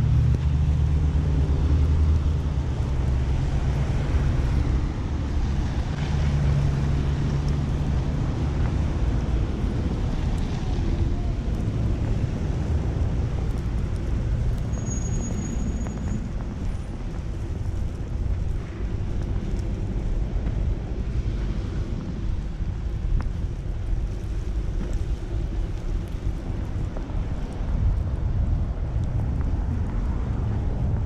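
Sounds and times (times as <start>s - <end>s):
low rumble of traffic: 0.0s - 31.0s
wind buffeting microphone: 0.0s - 31.0s.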